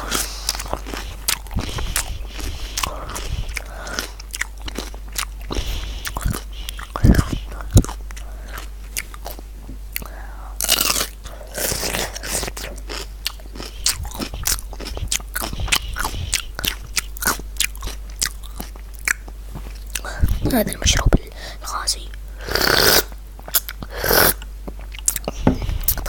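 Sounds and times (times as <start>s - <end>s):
crunching and chewing cucumber: 0.0s - 21.2s, 22.6s - 26.0s.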